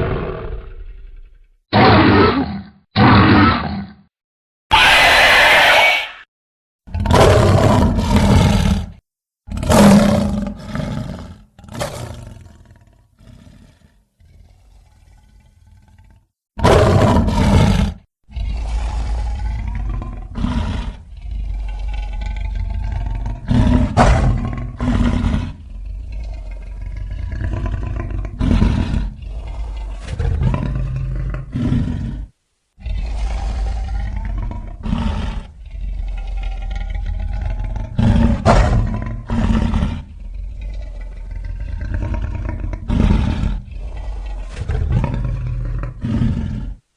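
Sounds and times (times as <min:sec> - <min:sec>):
creature growling: 0:00.0 - 0:04.1, 0:04.7 - 0:06.2, 0:06.9 - 0:46.8
creature roaring: 0:00.0 - 0:04.1, 0:04.7 - 0:06.2, 0:06.9 - 0:46.8.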